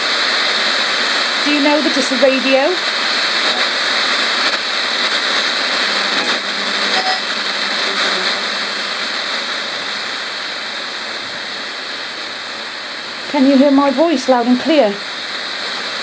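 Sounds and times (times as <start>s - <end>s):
radio static hissing: 0.0s - 16.0s
short faint radio tones: 1.3s - 16.0s.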